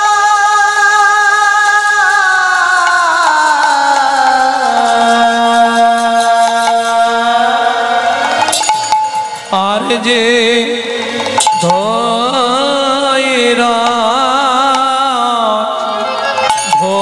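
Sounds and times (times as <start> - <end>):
devotional music without words: 0.0 - 17.0
hand cymbals ticking: 1.6 - 9.7, 11.1 - 17.0.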